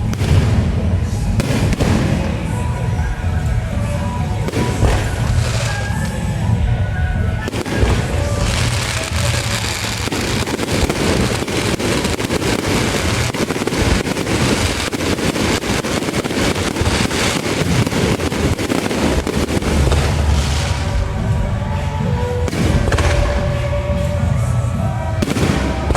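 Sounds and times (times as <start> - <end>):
fireworks crackling and banging: 0.0 - 25.9
procession music: 0.0 - 25.9.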